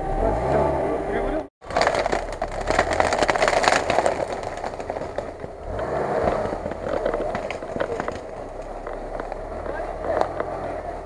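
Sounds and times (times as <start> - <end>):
car engine running: 0.0 - 11.0
reeds and twigs crackling: 1.6 - 10.6.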